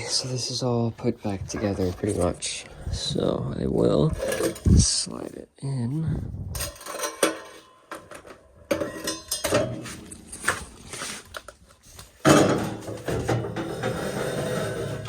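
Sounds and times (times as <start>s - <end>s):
metal clattering and scraping: 0.0s - 3.1s, 3.8s - 5.0s, 6.5s - 15.0s.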